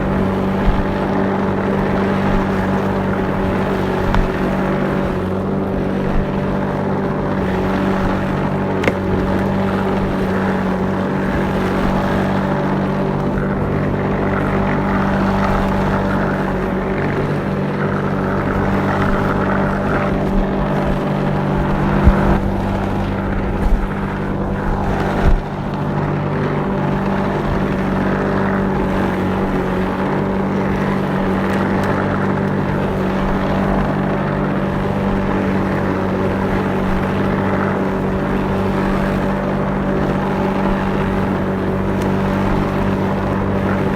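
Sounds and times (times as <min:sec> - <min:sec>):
lawnmower engine droning: 0:00.0 - 0:43.9.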